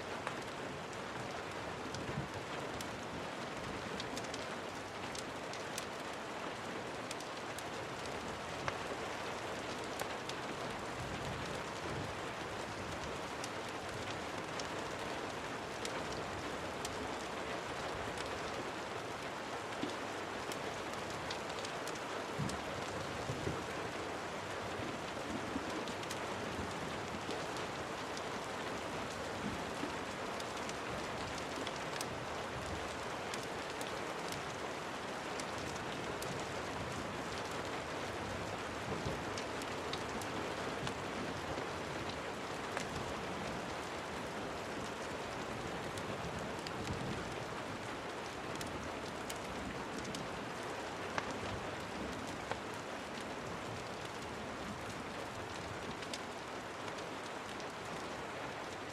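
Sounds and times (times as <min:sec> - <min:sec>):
sharp rain ticks: 0:00.0 - 0:58.9
steady rain hiss: 0:00.0 - 0:58.9.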